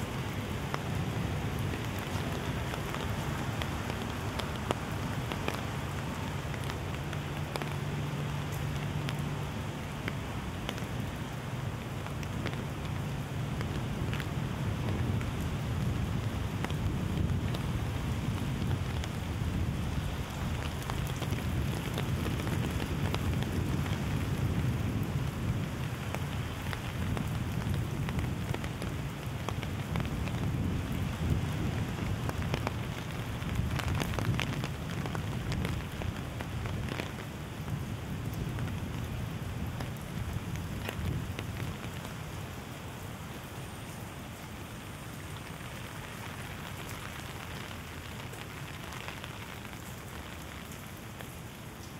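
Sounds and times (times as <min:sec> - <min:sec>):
rain drops hitting: 0:00.0 - 0:51.9.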